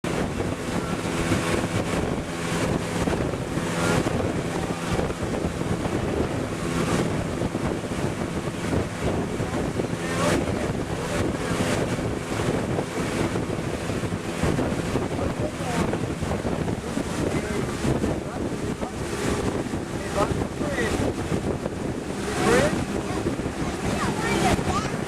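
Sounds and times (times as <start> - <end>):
motorboat engine running: 0.0 - 25.0
wind buffeting microphone: 0.0 - 25.0.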